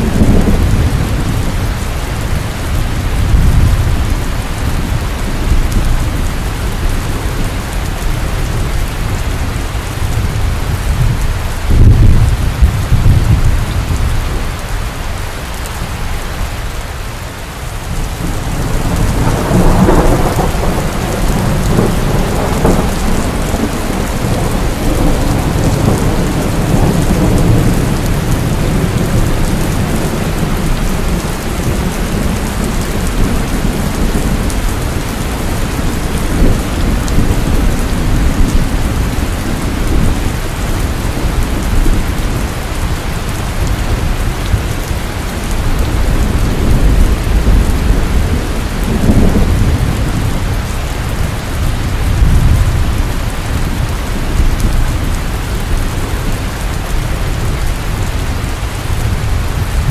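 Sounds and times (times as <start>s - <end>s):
low rolling thunder: 0.0s - 14.6s, 17.7s - 59.9s
heavy rain pouring: 0.0s - 59.9s.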